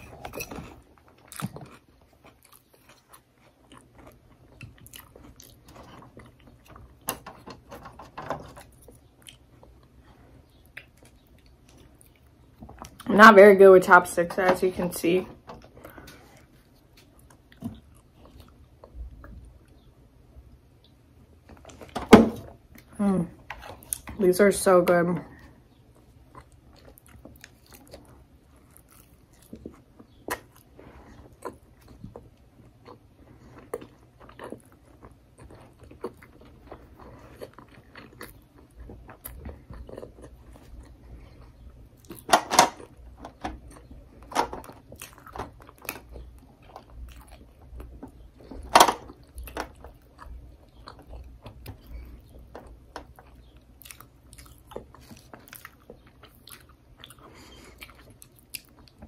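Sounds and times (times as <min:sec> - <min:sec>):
person chewing sushi: 0:00.0 - 0:07.7, 0:08.4 - 0:13.1, 0:15.6 - 0:21.9, 0:25.4 - 0:59.0.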